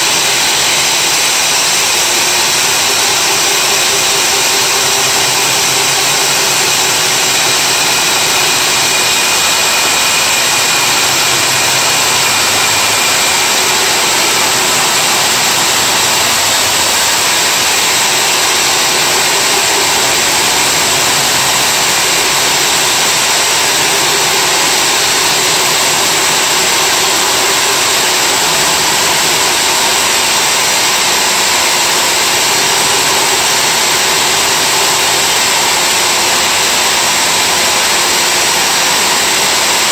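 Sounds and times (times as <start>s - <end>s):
core drill boring into concrete: 0.0s - 39.9s.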